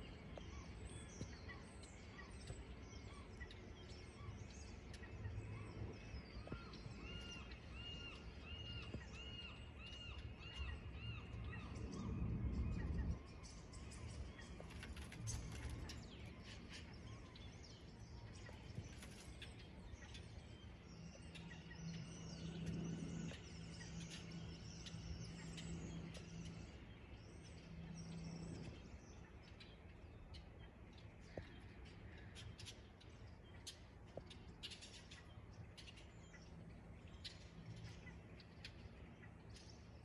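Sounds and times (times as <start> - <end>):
birds chirping and calling: 0.0 - 40.0
low steady hum: 0.0 - 40.0.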